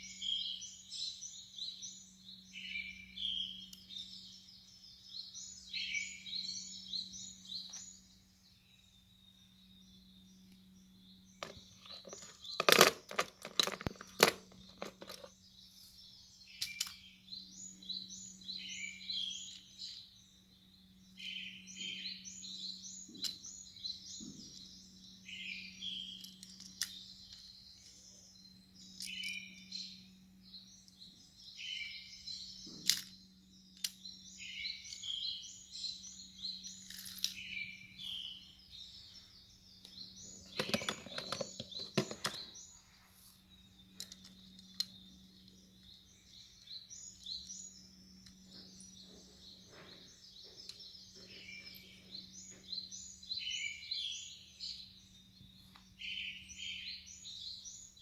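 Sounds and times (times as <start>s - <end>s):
small birds chirping: 0.0s - 58.0s
steady low hum: 0.0s - 58.0s.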